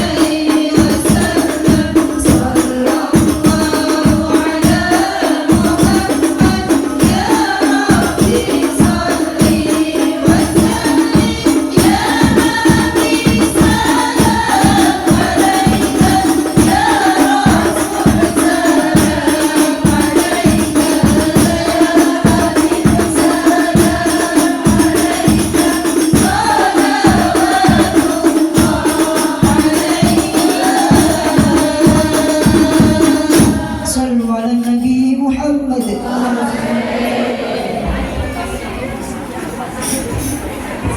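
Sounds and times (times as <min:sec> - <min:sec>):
jingling tambourine: 0:00.0 - 0:33.9, 0:39.8 - 0:40.9
group singing: 0:00.0 - 0:34.3, 0:35.7 - 0:40.9
frame drums beating: 0:00.0 - 0:34.8, 0:35.9 - 0:40.9.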